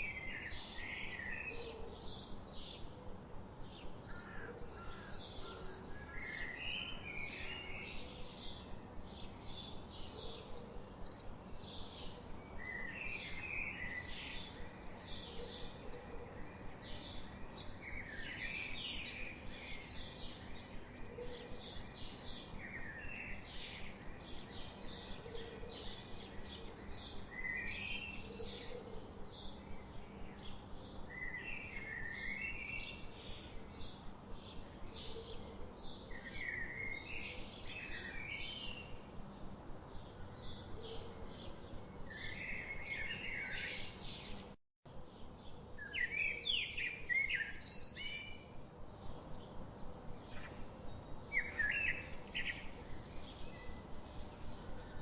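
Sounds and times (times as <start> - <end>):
background noise: 0.0 - 55.0.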